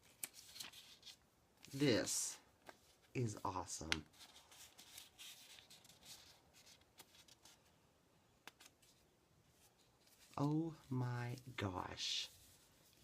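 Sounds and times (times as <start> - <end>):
paper pages rustling: 0.0 - 7.8, 8.4 - 11.6.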